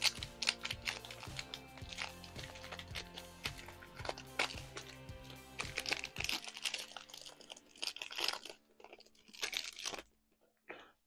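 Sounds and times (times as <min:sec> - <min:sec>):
soft background music: 0:00.0 - 0:10.1
foil wrapper crinkling: 0:00.0 - 0:10.2.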